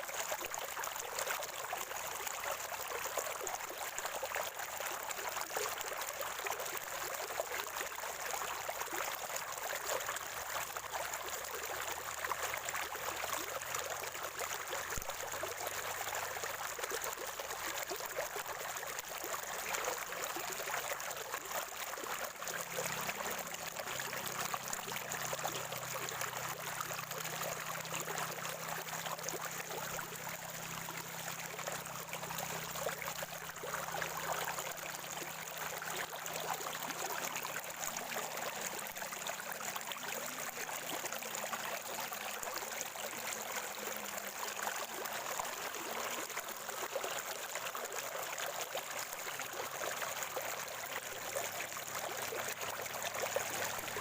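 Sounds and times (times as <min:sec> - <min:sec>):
spring water gurgling: 0:00.0 - 0:54.0.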